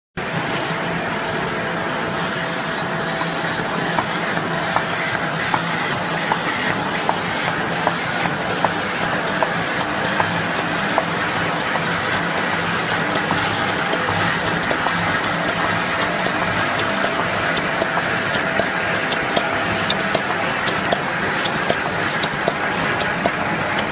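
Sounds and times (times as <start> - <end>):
machine hiss and whir: 0.2 - 23.9.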